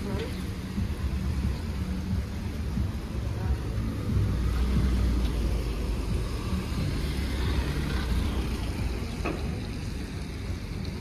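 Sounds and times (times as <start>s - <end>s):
car engine rumbling: 0.0s - 11.0s
street noise: 0.0s - 11.0s.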